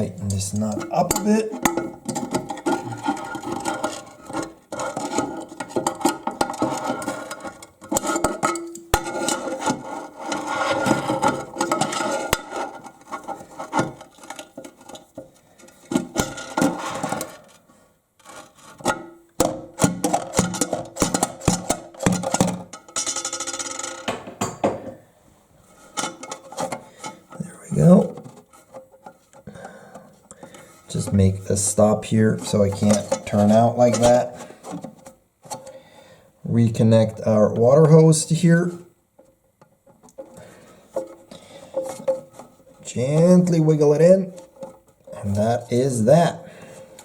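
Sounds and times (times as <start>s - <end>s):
clicks and scrapes of toilet parts: 0.0s - 25.0s, 25.6s - 47.0s.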